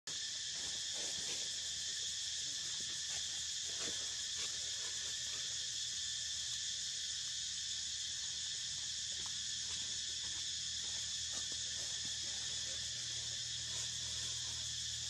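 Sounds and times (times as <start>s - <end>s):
insects hissing: 0.1s - 15.0s.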